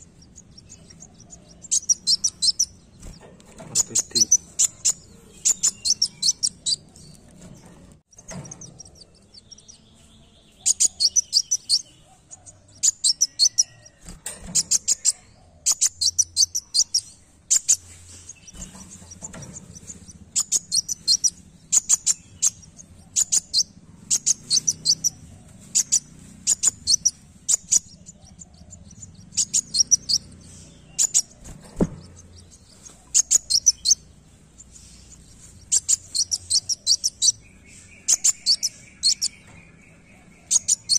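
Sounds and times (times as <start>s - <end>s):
sunbird high thin chirping: 0.0s - 7.5s, 8.1s - 40.9s.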